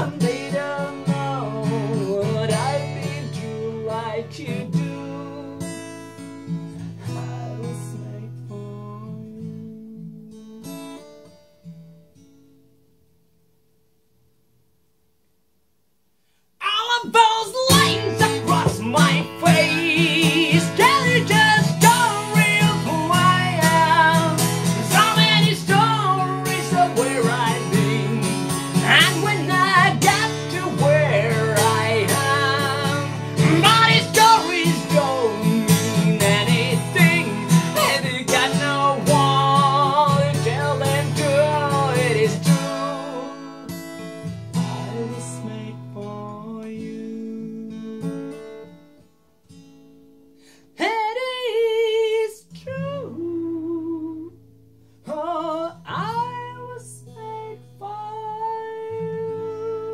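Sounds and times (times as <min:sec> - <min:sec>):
man singing: 0:00.0 - 0:05.9, 0:07.0 - 0:11.0, 0:16.6 - 0:48.6, 0:50.8 - 0:54.3, 0:55.1 - 0:59.9
strummed acoustic guitar: 0:00.0 - 0:13.9, 0:16.6 - 0:59.9.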